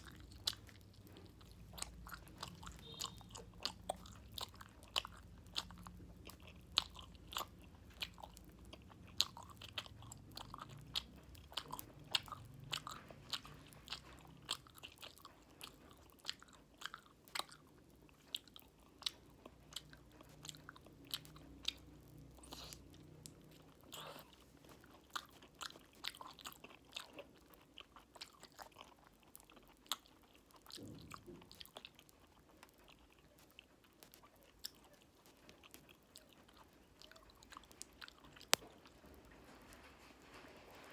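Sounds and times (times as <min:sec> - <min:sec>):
chewing: 0:00.0 - 0:40.9
popping candy crackles: 0:00.0 - 0:40.9.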